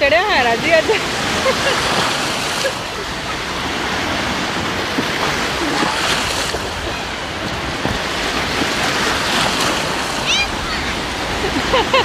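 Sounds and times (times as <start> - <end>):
waves breaking and surf washing: 0.0 - 12.0.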